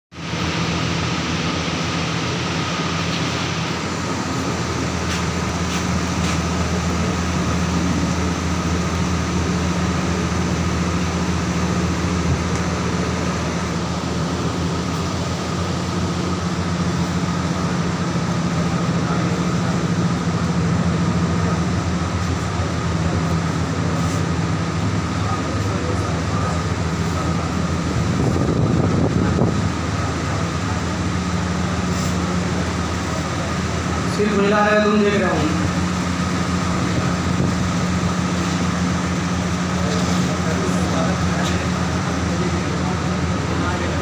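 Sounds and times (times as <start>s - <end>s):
electric fans droning: 0.1s - 44.0s
low electrical hum: 0.2s - 44.0s.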